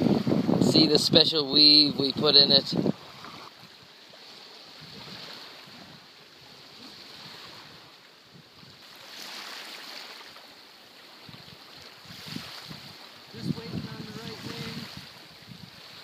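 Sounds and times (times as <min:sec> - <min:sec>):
small waves washing onto shore: 0:00.0 - 0:16.0.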